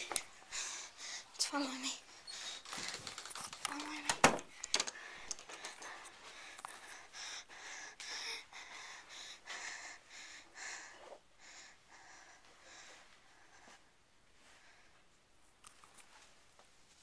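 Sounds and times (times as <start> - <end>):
girl breathing: 0.0 - 15.1.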